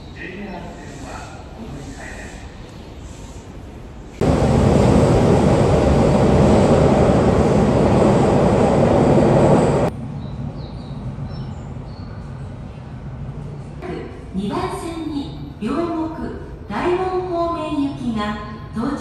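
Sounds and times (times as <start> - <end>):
subway train rumbling past: 0.0 - 19.0.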